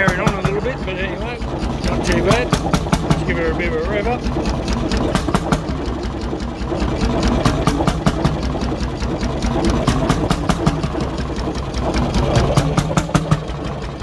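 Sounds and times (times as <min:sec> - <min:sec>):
engine knocking: 0:00.0 - 0:14.0.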